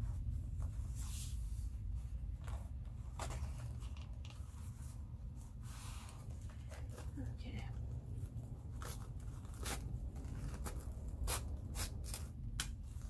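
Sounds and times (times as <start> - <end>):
paper rustling and brushing: 0.0 - 13.0
steady low hum: 0.0 - 13.0.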